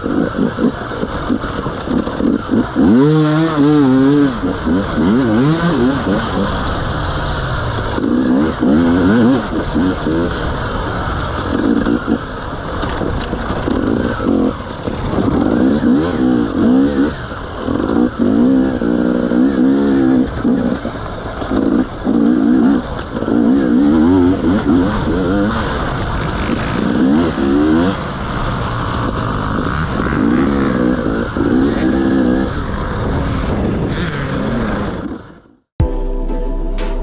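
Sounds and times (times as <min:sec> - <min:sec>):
motorcycle engine revving: 0:00.0 - 0:35.7.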